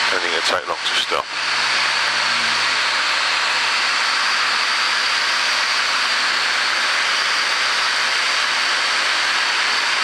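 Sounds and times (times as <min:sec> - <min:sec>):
light aircraft engine drone: 0:00.0 - 0:10.0.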